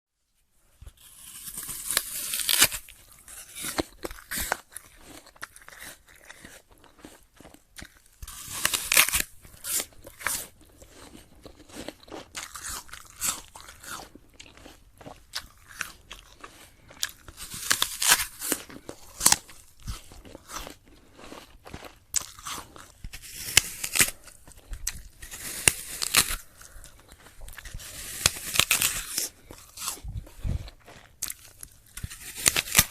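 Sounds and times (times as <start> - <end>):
apple crunching bites: 0.8 - 32.9
crisp chewing crunches: 0.8 - 32.9.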